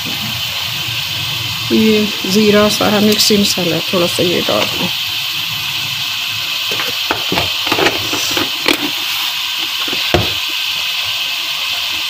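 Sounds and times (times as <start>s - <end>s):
sauce sizzling in a pot: 0.0s - 12.0s.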